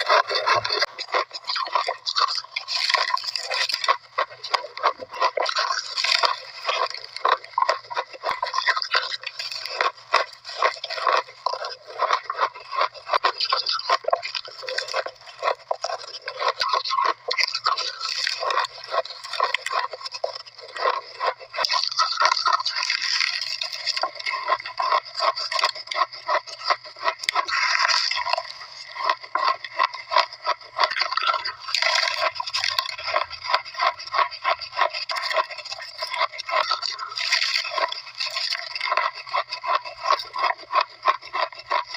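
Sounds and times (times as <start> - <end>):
chewing shaved ice: 0.0 - 41.9.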